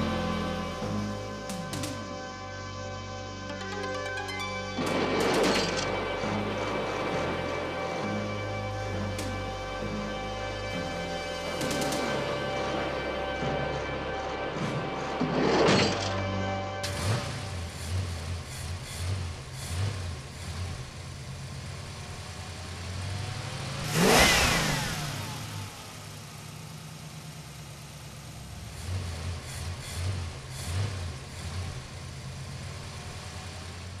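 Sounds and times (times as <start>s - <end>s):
car engine revving: 0.0s - 3.6s, 4.7s - 34.0s.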